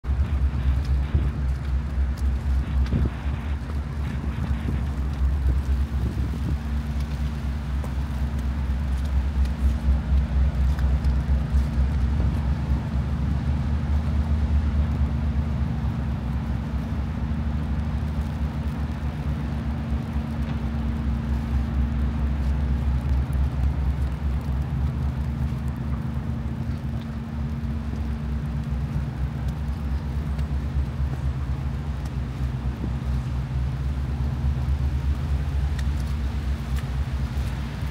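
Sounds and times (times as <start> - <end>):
steady low hum: 0.0 - 37.9
wind buffeting microphone: 0.0 - 37.9.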